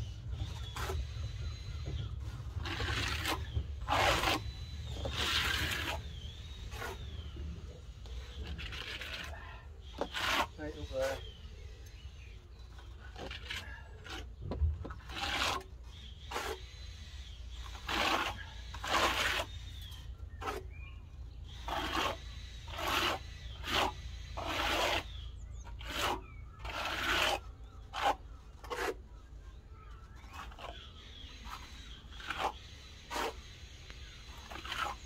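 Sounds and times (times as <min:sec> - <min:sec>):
hand float scraping wet render: 0:00.0 - 0:35.0.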